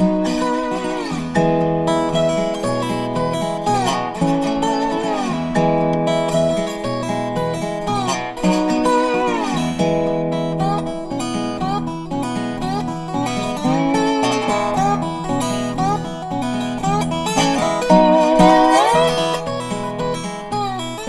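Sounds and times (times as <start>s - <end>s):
acoustic guitar with sliding notes: 0.0s - 21.0s.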